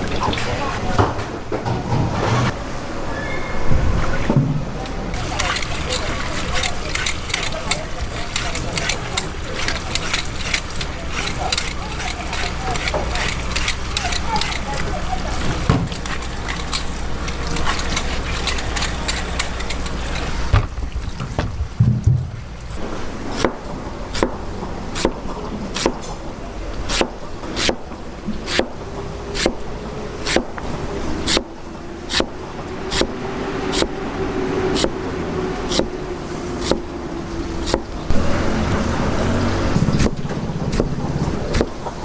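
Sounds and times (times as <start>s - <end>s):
steady background noise: 0.0s - 42.0s.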